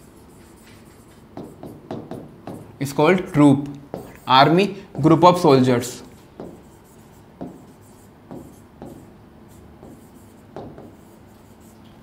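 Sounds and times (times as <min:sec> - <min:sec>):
marker pen writing on a board: 0:00.0 - 0:05.4, 0:06.2 - 0:12.0.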